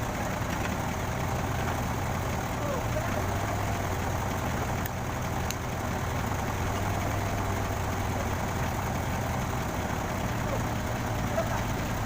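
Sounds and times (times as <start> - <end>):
truck crane engine idling: 0.0 - 12.0.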